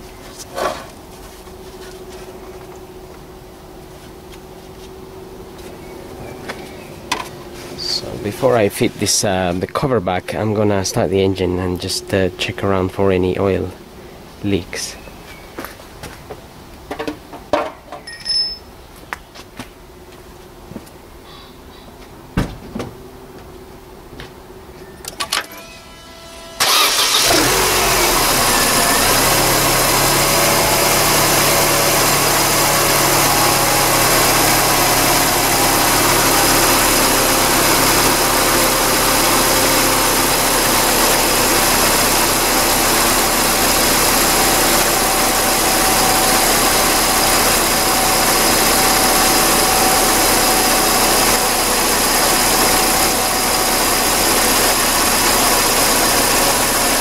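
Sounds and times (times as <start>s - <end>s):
car engine starting and idling: 0.4s - 14.6s, 24.9s - 57.0s.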